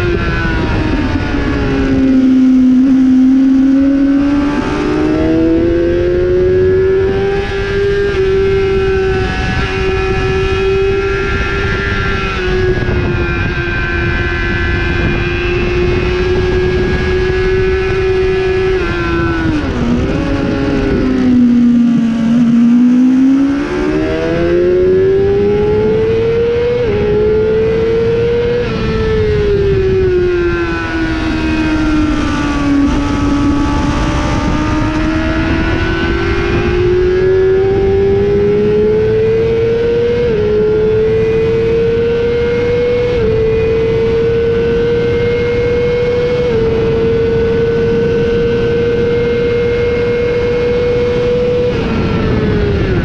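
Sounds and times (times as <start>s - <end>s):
motorcycle engine at racing revs: 0.0s - 53.0s
wind rush: 0.0s - 53.0s.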